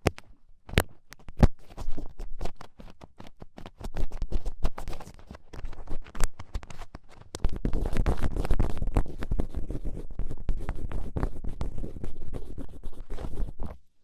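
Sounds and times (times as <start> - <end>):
ear pick scratching in ear: 1.6 - 13.8.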